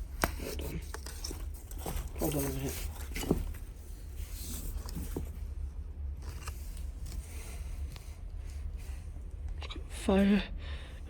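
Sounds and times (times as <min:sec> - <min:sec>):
rustling and scraping handling: 0:00.0 - 0:09.6.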